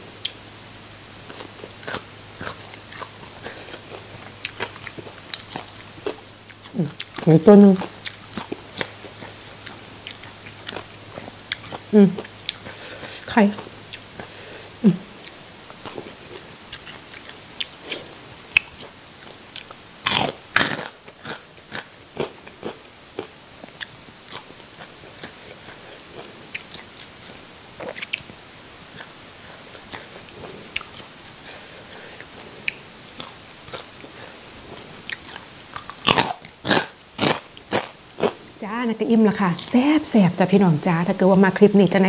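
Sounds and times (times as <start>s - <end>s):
crunching fried fish: 1.2s - 14.4s, 15.2s - 34.5s, 35.1s - 38.4s.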